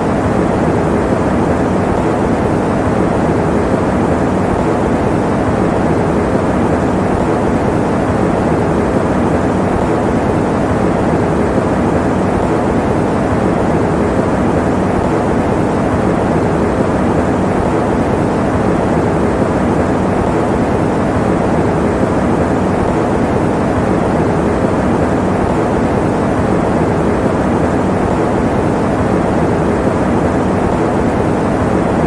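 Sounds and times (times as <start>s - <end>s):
electric fan running: 0.0s - 32.0s.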